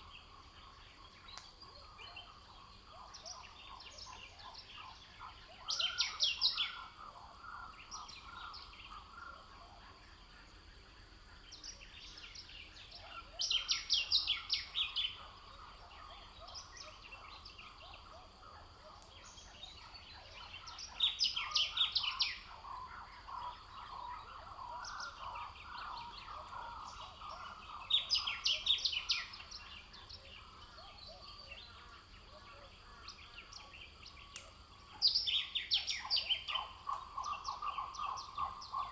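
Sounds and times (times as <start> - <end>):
background bird chorus: 0.0 - 38.9.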